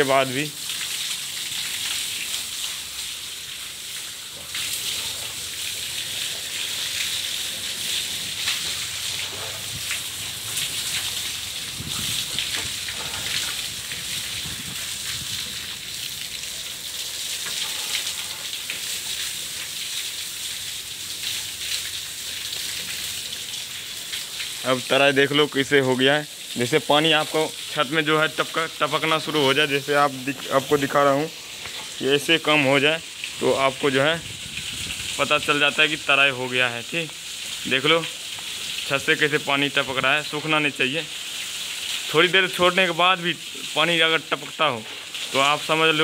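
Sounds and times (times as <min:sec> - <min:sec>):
water pouring and splashing: 0:00.0 - 0:46.0.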